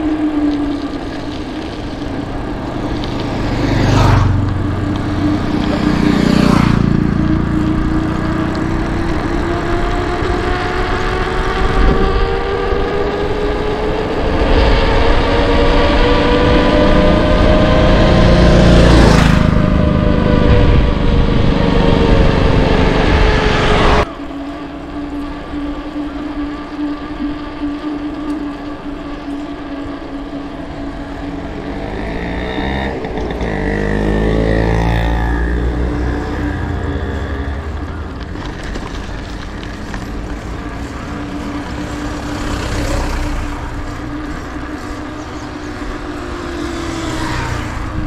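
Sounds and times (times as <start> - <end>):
steady engine hum: 0.0 - 48.0
vehicle passing: 0.0 - 48.0.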